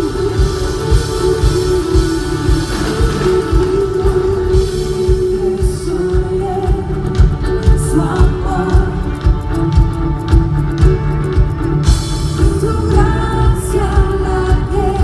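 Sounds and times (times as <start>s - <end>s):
guitar: 0.0s - 15.0s
person singing: 0.0s - 15.0s
steady drum beat: 0.0s - 15.0s.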